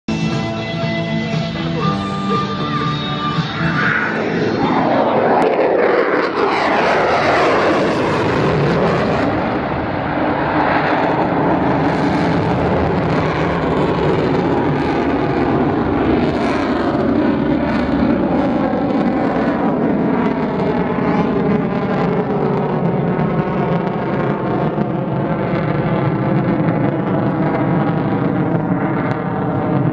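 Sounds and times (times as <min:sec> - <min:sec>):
fighter jet passing: 0:02.0 - 0:29.9.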